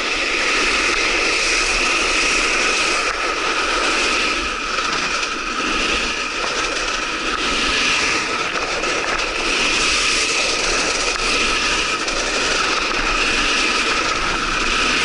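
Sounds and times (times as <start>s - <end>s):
board scraping across snow: 0.0s - 15.0s.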